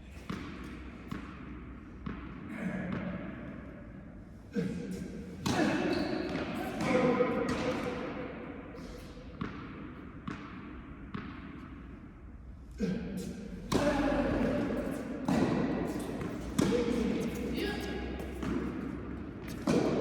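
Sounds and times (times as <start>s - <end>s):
tennis balls bouncing on court: 0.2s - 3.6s, 5.4s - 12.0s, 13.6s - 20.0s
tennis balls struck by rackets: 0.2s - 3.7s, 5.3s - 12.1s, 13.4s - 20.0s.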